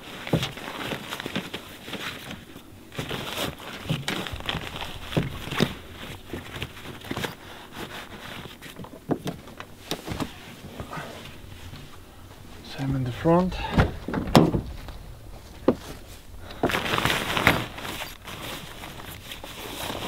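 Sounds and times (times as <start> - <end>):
canvas rustling and crinkling: 0.0 - 20.0.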